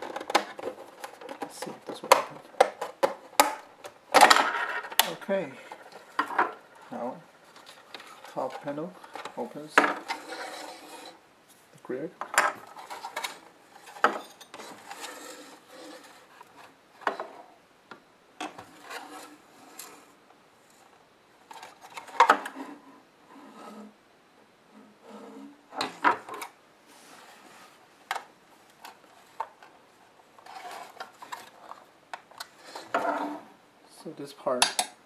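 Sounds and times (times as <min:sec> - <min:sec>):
plastic parts rubbing and scraping: 0:00.0 - 0:11.2, 0:12.2 - 0:17.5, 0:18.4 - 0:24.0, 0:24.8 - 0:33.6.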